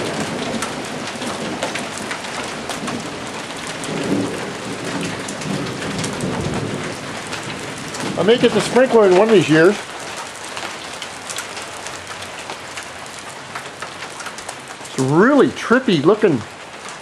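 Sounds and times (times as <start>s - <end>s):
hailstones pelting the ground: 0.0s - 17.0s.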